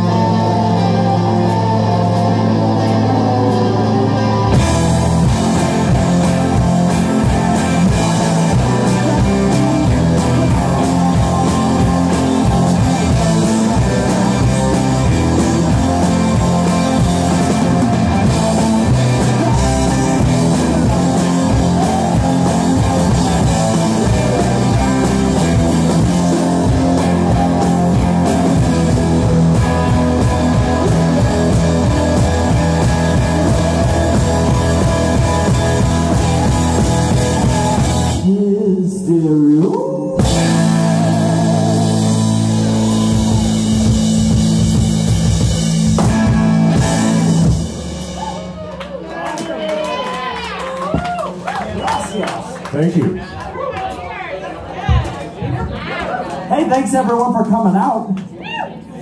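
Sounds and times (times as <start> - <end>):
drum kit: 0.0 - 52.4
electric guitars: 0.0 - 54.0
live rock band playing: 0.0 - 54.1
bass guitar: 0.0 - 59.0.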